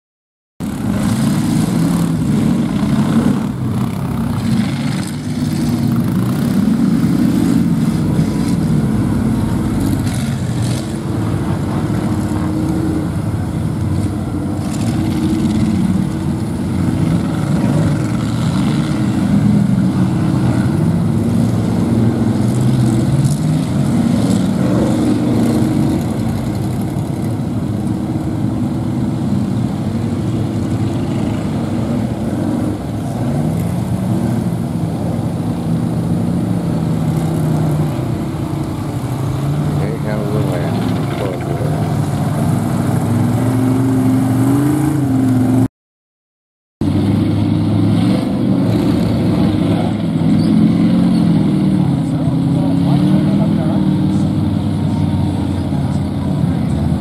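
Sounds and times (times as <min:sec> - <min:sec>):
buggy engine revving: 0:00.6 - 0:45.7, 0:46.8 - 0:57.0.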